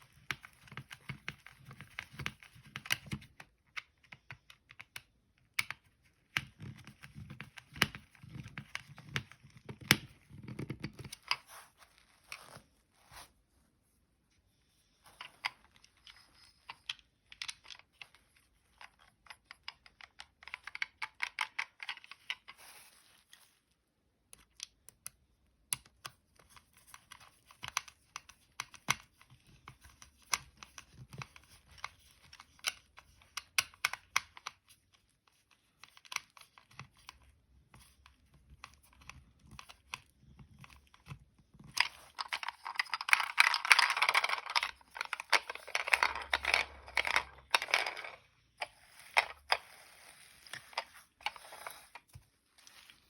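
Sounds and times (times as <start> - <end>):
plastic toy parts clicking and rattling: 0.0 - 11.5, 15.1 - 22.6, 24.3 - 53.0.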